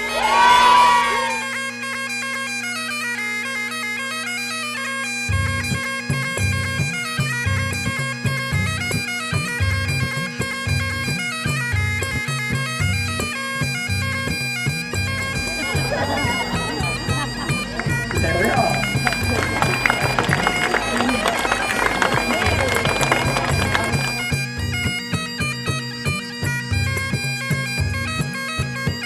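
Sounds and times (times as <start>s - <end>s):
bagpipes playing: 0.0s - 29.0s.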